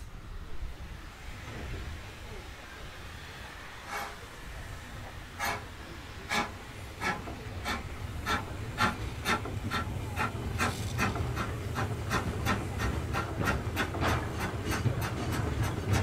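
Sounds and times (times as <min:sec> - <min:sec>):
steam locomotive chuffing: 0:01.1 - 0:16.0.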